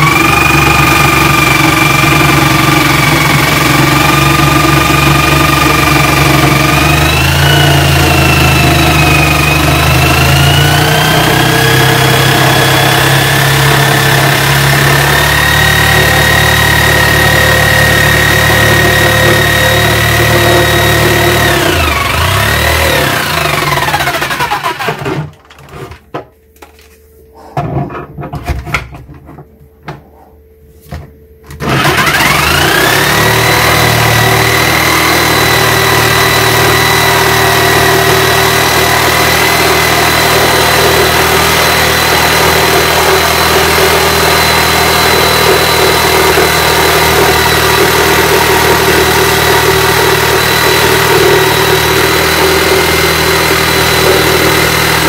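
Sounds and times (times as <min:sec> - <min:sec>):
jigsaw cutting wood: 0:00.0 - 0:25.6, 0:31.6 - 0:55.0.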